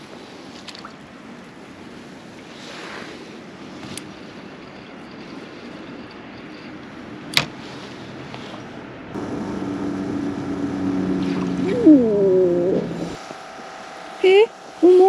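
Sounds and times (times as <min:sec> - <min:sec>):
low mechanical hum: 0:00.0 - 0:15.0
wind and water noise: 0:00.0 - 0:15.0.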